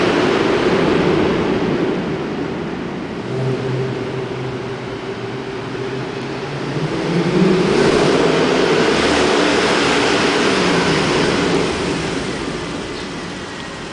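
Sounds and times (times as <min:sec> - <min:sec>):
car exhaust accelerating: 0:00.0 - 0:13.9.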